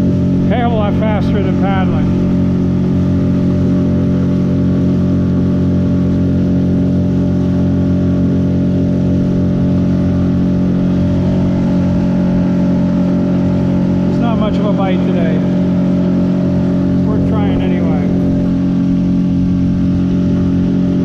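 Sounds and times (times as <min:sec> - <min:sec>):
small motor droning: 0:00.0 - 0:21.0.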